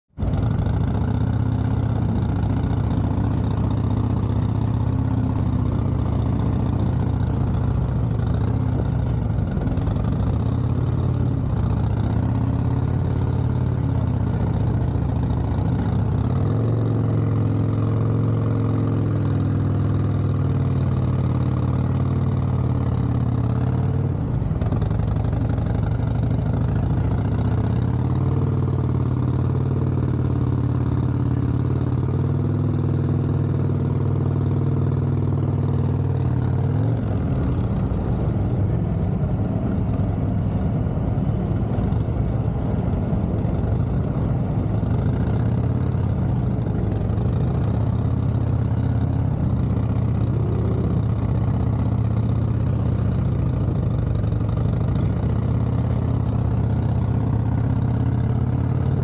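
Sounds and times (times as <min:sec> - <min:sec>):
motorcycle engine running at low revs: 0:00.1 - 0:59.0.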